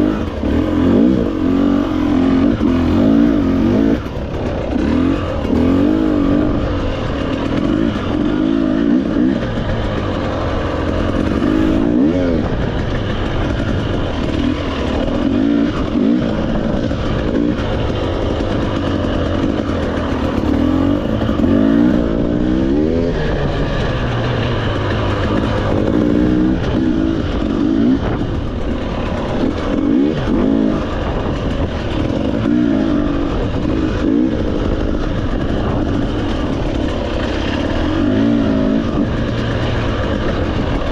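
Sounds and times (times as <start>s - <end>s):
motorcycle engine revving: 0.0s - 40.9s
steady rush of noise: 0.0s - 40.9s.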